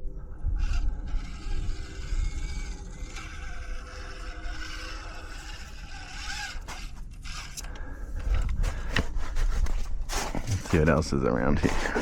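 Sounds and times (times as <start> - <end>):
small electric motor whining: 0.0 - 10.7.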